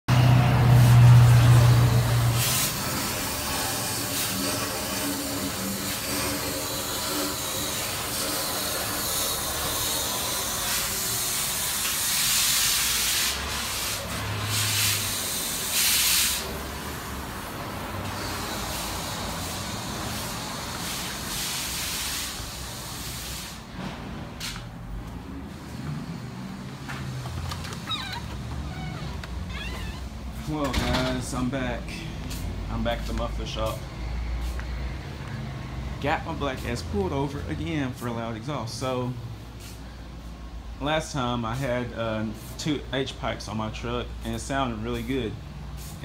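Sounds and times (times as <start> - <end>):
hissing and rushing shop noise: 0.1 - 46.0.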